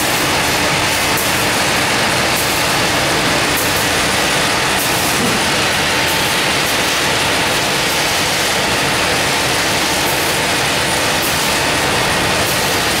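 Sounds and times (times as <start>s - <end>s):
industrial machine noise with whine: 0.0s - 13.0s.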